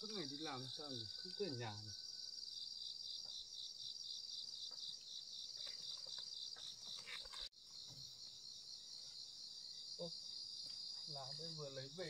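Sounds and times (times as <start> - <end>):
shrill insect chorus: 0.0 - 12.0.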